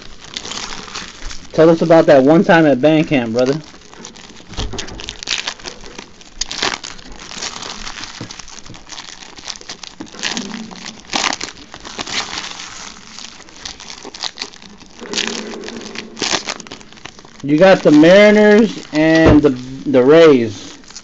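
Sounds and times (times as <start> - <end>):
foil wrapper crinkling: 0.0 - 21.0.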